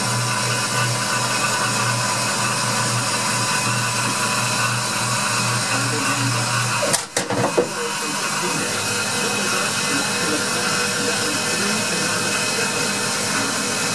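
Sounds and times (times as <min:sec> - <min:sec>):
milling machine whirring: 0:00.0 - 0:13.9.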